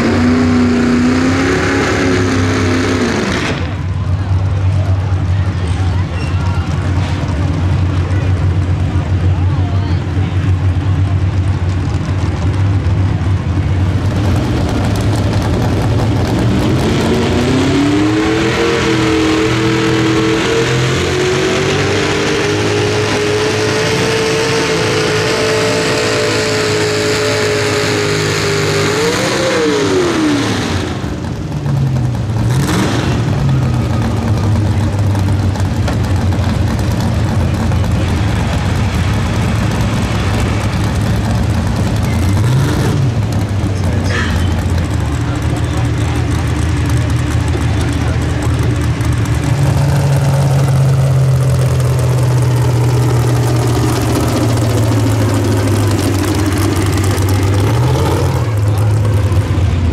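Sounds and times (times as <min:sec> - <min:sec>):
tractor engine idling and revving: 0:00.0 - 0:59.9.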